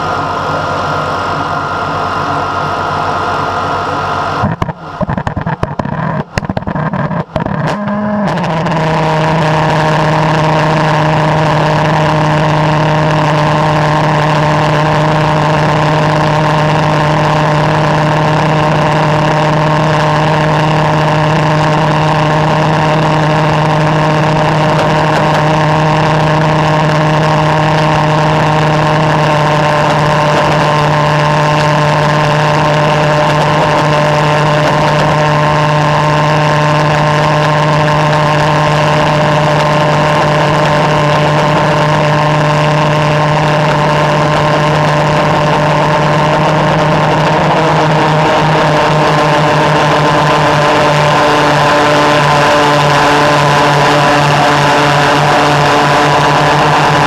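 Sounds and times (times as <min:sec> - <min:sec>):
pulse jet engine drone: 0:00.0 - 0:57.0.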